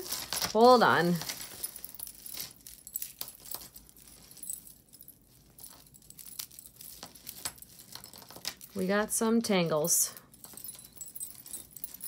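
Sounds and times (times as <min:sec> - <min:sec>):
metal chains clinking: 0:00.0 - 0:12.0.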